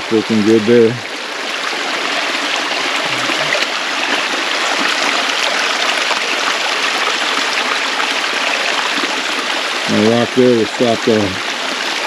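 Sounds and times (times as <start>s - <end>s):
runoff water rushing down ditch: 0.0s - 12.0s.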